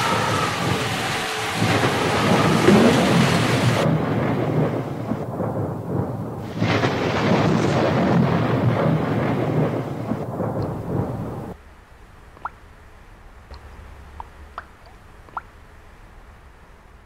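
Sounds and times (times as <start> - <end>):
low rumbling thunder: 0.0 - 17.0
rain hiss: 0.0 - 17.0.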